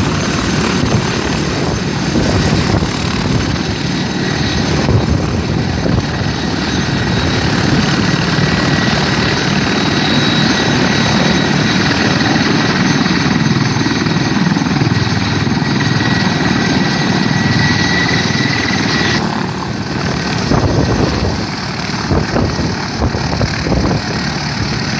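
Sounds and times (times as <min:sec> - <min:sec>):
helicopter rotor noise: 0:00.0 - 0:24.9
high turbine whine: 0:00.0 - 0:24.9.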